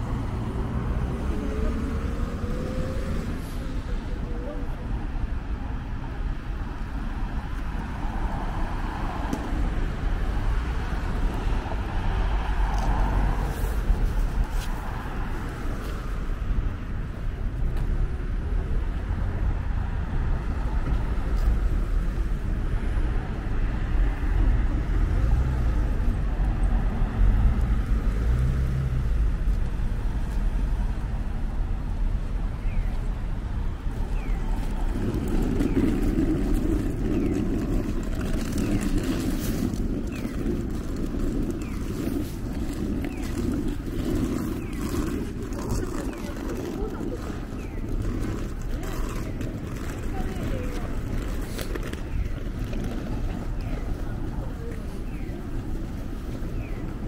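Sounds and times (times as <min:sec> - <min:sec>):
passing cars rumble: 0:00.0 - 0:57.0.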